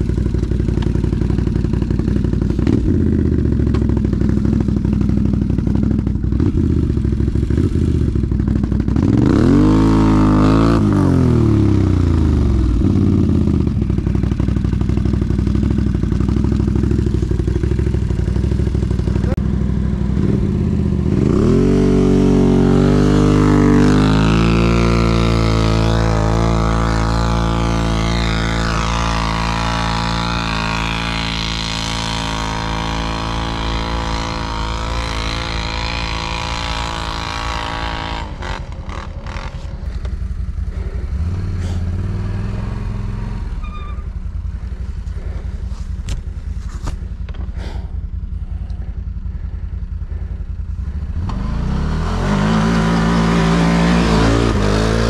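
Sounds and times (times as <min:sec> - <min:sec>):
engine revving and idling: 0:00.0 - 0:55.0.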